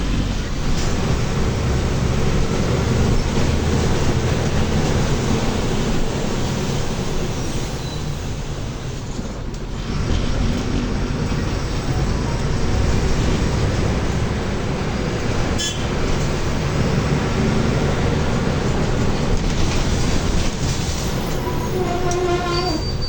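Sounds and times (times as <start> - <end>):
bus diesel engine driving: 0.0 - 23.0.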